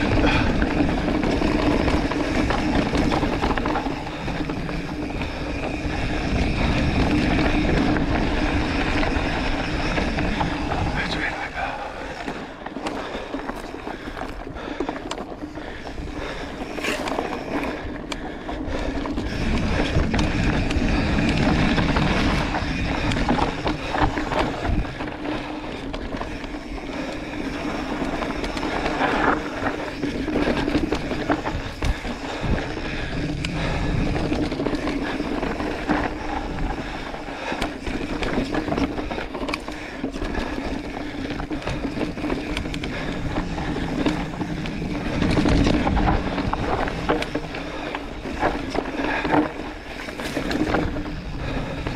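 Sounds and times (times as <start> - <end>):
bike rattling over bumps: 0.0 - 51.9
bike tyres crunching on dirt: 0.0 - 51.9
wind rumble on microphone: 0.0 - 51.9.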